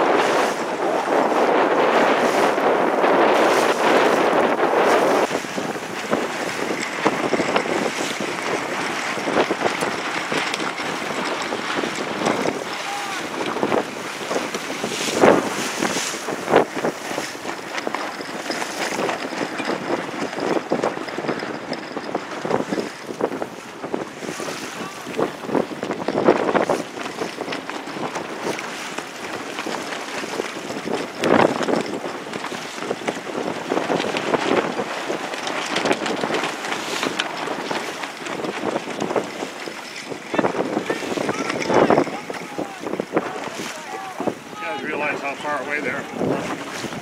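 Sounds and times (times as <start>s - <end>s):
water splashing against hull: 0.0s - 47.0s
wind rushing over microphone: 0.0s - 47.0s.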